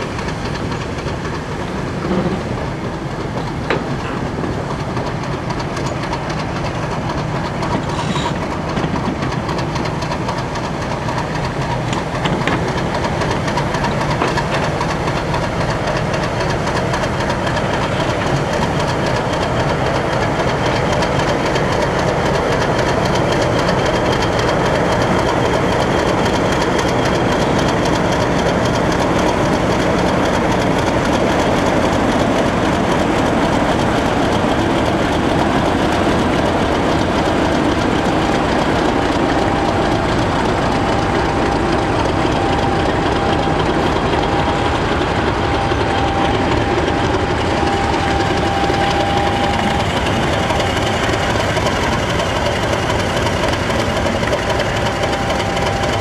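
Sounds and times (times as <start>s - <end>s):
diesel locomotive engine running: 0.0s - 56.0s
thin steady whine: 0.0s - 56.0s
train rumbling on track: 0.0s - 56.0s.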